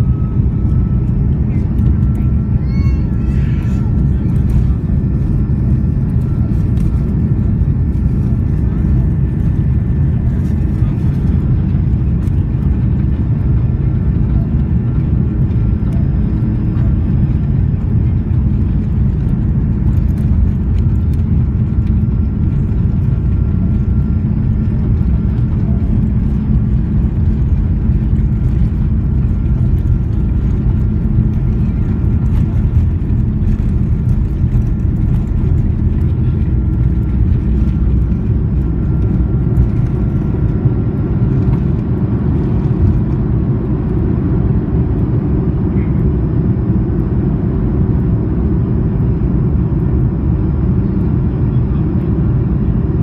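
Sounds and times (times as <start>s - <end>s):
faint engine whine: 0.0s - 53.0s
jet engines rumbling: 0.0s - 53.0s.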